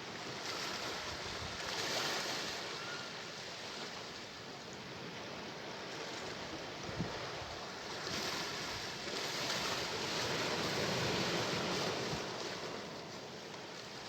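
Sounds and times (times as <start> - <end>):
sea waves washing ashore: 0.0 - 14.0.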